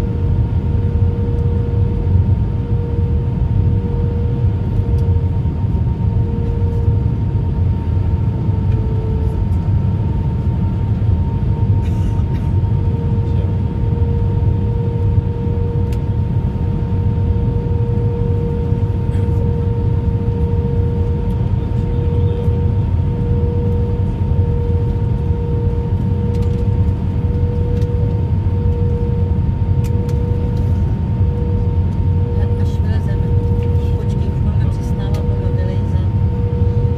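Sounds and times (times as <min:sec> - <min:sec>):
constant two-pitch hum: 0:00.0 - 0:36.9
engine and airflow rumble: 0:00.0 - 0:36.9.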